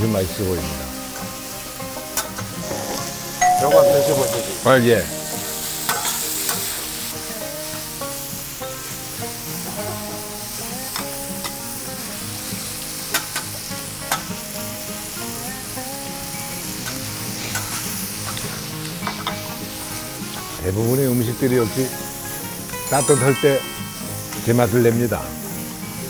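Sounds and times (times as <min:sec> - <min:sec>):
pork sizzling on iron griddle: 0:00.0 - 0:03.5, 0:04.6 - 0:26.0.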